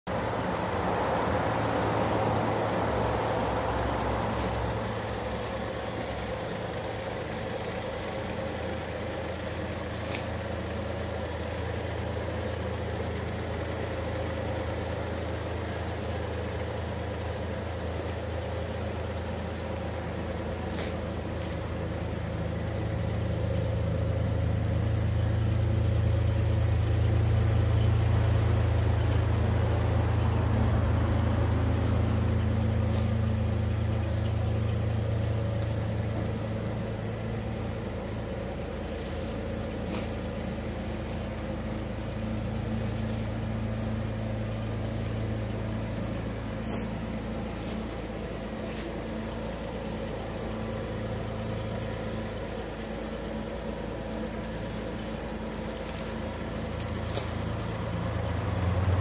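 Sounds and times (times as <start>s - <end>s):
small car engine idling: 0.0s - 59.0s.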